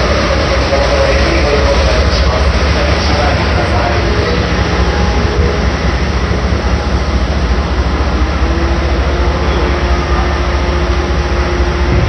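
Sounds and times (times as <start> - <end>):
trains idling with low rumble: 0.0 - 12.0.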